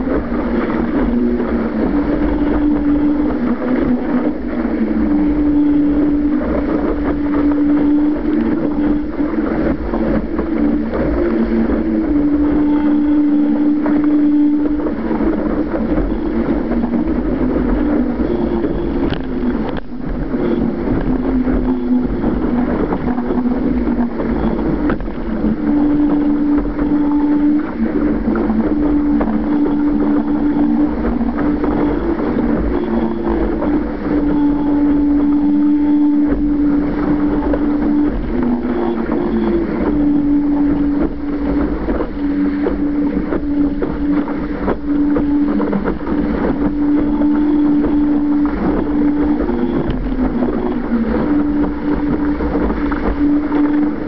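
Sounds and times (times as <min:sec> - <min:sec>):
two-pitch hum: 0:00.0 - 0:54.0
water rushing past hull: 0:00.0 - 0:54.0
wind buffeting microphone: 0:00.0 - 0:54.0.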